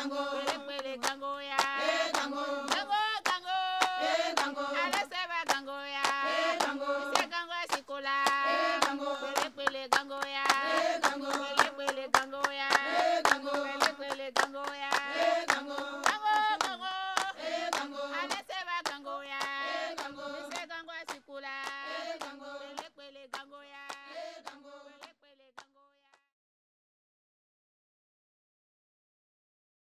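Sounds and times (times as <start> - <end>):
voices singing held notes: 0.0 - 25.0
hand claps: 0.0 - 26.2.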